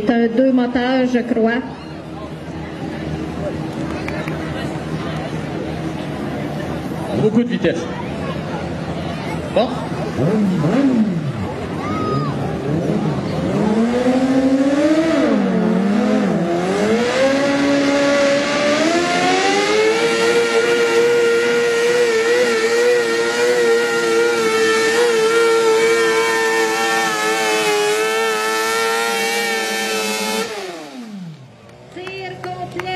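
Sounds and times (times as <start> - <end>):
tractor engines revving: 0.0 - 32.9.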